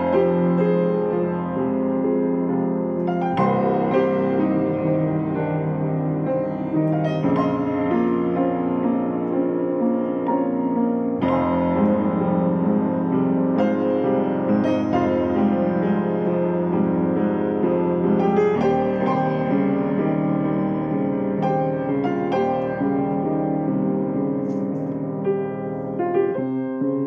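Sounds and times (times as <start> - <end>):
piano playing: 0.0 - 27.0.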